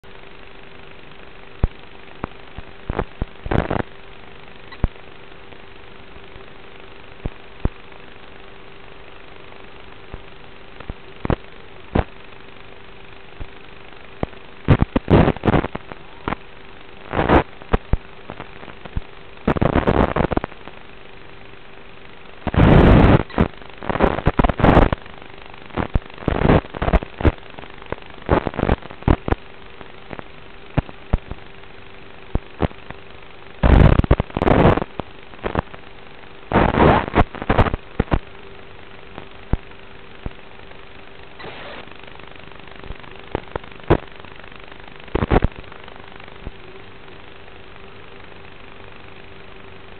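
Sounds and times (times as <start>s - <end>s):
quadcopter hiss and hum: 0.0s - 49.9s
rushing crackling noise bursts: 0.0s - 49.9s.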